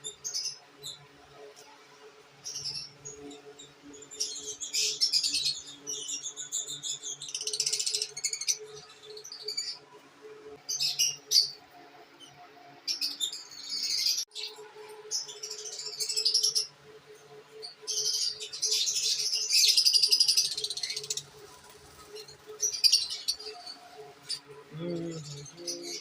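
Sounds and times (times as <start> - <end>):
lovebirds chirping and chattering: 2.4 - 9.8, 10.6 - 26.0.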